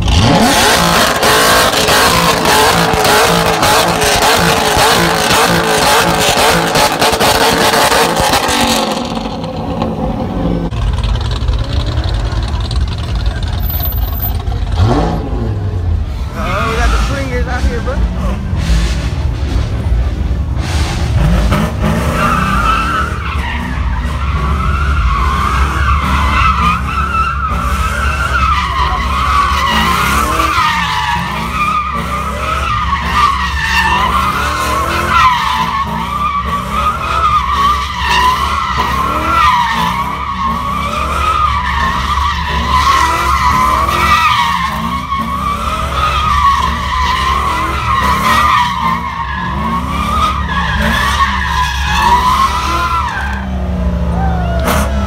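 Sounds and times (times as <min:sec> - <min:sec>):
car tires squealing: 0:00.0 - 0:10.6, 0:16.1 - 0:19.1, 0:20.6 - 0:55.0
car engine rumble: 0:00.0 - 0:55.0.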